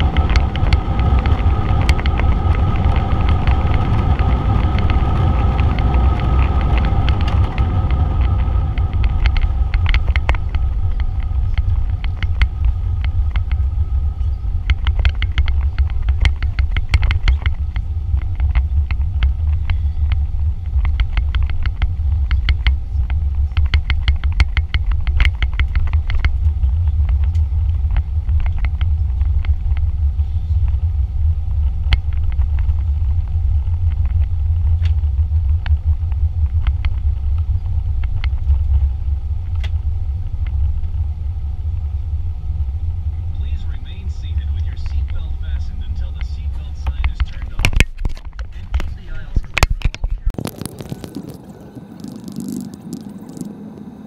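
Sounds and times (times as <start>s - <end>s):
jet engine whine: 0.0s - 54.0s
wheels rumbling on runway: 0.0s - 54.0s.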